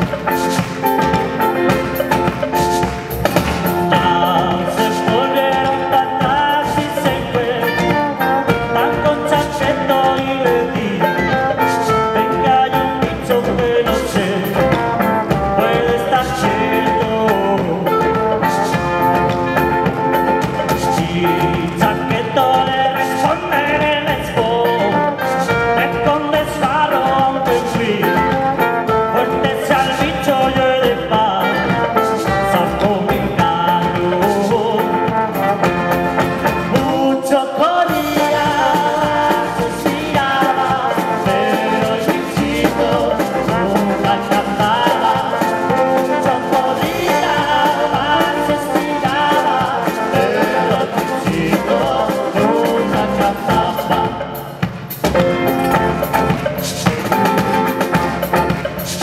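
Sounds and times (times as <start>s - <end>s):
folk band playing live: 0.0s - 59.0s.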